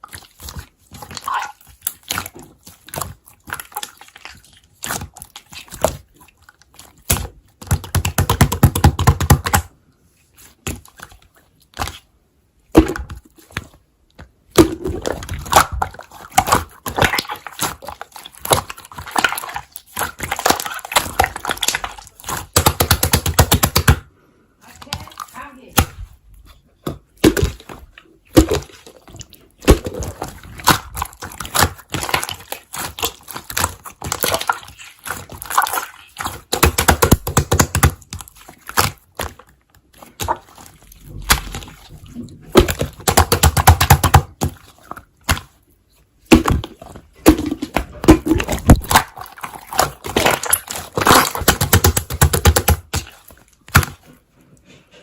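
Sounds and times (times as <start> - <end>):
slime crackling and squishing: 0.0 - 54.4.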